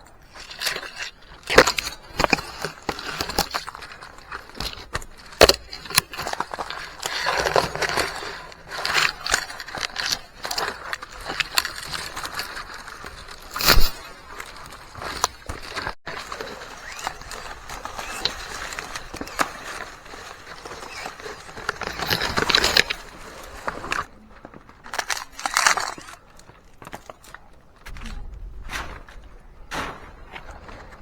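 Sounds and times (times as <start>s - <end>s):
rustling of fronds: 0.1s - 31.0s.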